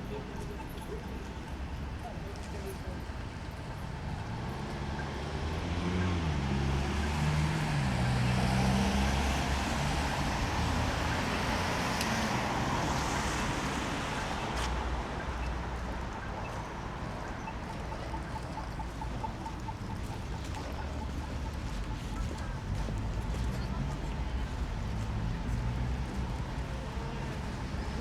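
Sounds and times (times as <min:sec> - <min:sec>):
vehicle engine hum: 0:00.0 - 0:28.0.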